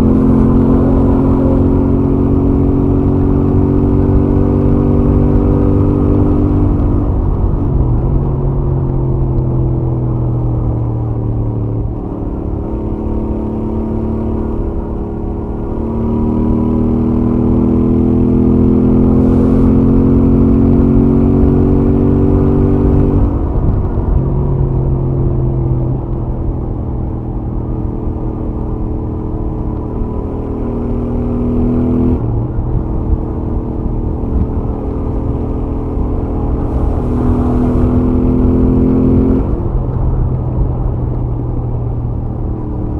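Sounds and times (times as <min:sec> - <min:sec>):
motorcycle engine at highway speed: 0:00.0 - 0:42.9.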